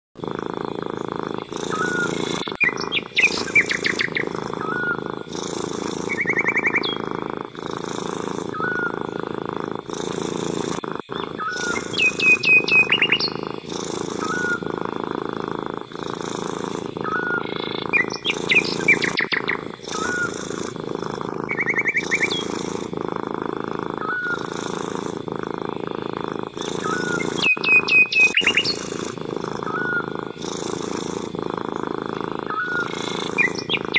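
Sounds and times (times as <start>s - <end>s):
cat purring: 0.2s - 33.9s
birds chirping in trills: 0.7s - 15.2s, 15.8s - 23.0s, 23.9s - 25.0s, 26.0s - 33.9s.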